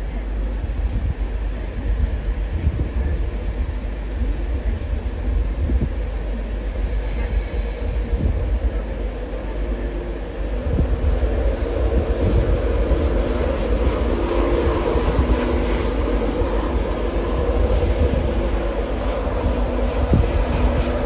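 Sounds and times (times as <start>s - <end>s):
train coaches rumbling over rails: 0.0s - 21.0s.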